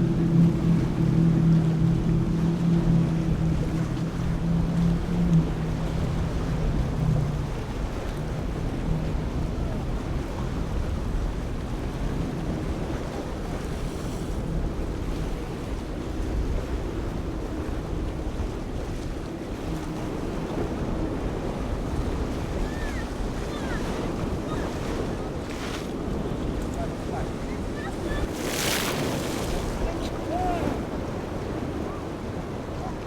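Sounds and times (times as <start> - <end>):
boat engines droning: 0.0 - 33.0
surf and waves: 0.0 - 33.0
wind buffeting microphone: 0.0 - 33.0.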